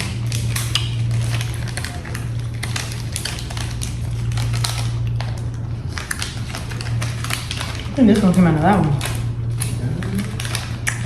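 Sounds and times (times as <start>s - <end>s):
low electrical hum: 0.0s - 11.0s
small clicks and crackles: 0.0s - 11.0s.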